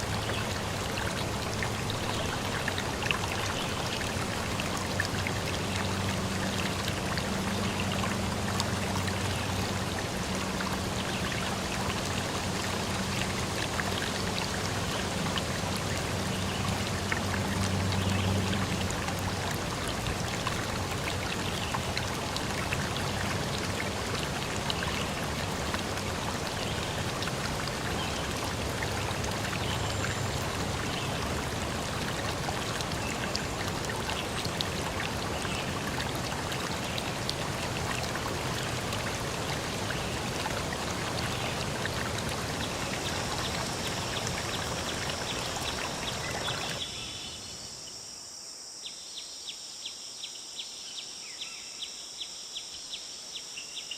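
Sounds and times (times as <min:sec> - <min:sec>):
stream flowing: 0:00.0 - 0:47.8.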